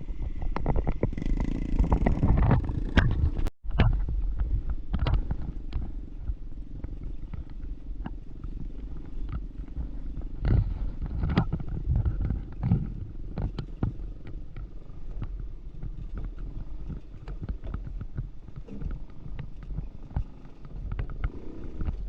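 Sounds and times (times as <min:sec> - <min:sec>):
engine pulsing rumble: 0:00.0 - 0:22.0
rattles and clicks: 0:00.2 - 0:22.0.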